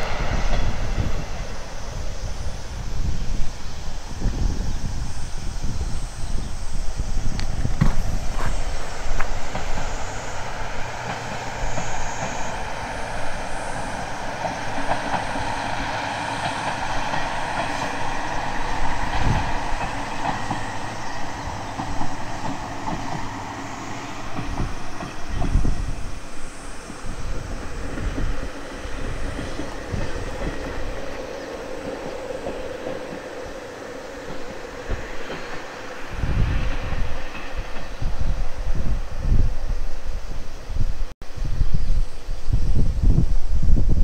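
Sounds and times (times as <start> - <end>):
train wheel noise: 0.0 - 41.1
diesel train rumbling: 0.0 - 44.0
high steady squeal: 0.0 - 44.0.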